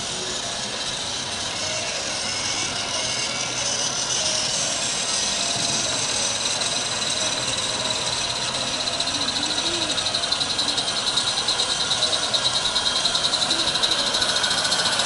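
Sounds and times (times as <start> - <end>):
high whine: 0.0 - 15.0
model locomotive hissing: 0.0 - 15.0
rhythmic pulsing: 0.0 - 15.0.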